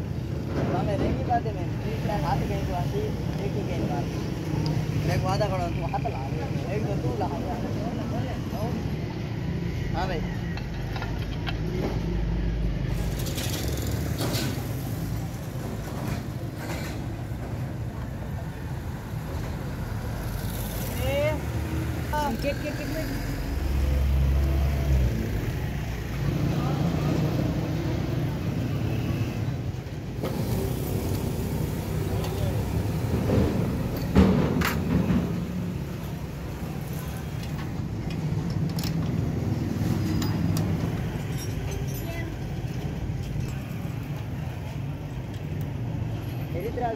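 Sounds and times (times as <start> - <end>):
vehicle engine rumbling: 0.0 - 46.9.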